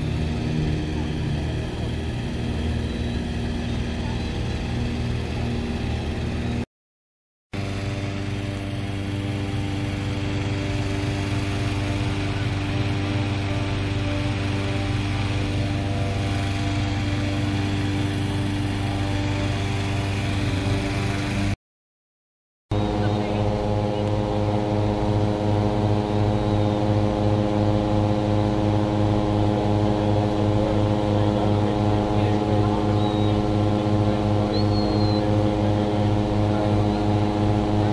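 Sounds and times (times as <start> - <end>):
inflator fan engine running: 0.0 - 6.6, 7.6 - 21.6, 22.7 - 37.9.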